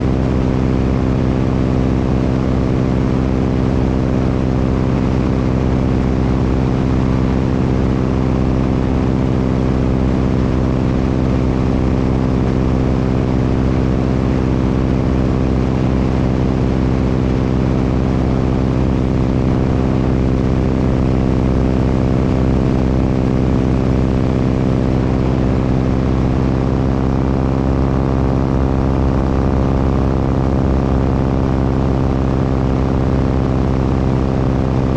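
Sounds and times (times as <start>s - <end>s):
propeller airplane engine droning: 0.0s - 34.9s.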